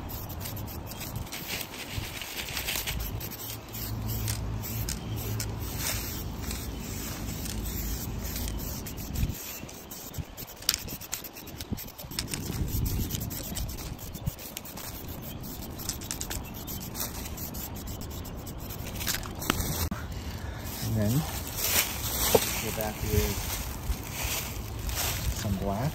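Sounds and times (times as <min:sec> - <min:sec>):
rubbing against rough tree bark: 0:00.0 - 0:25.9.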